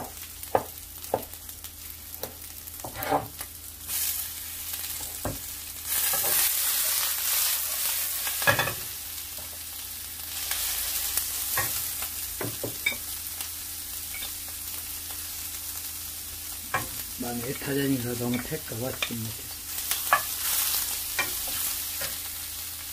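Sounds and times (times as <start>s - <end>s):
vegetables sizzling in frying pan: 0.0s - 22.9s.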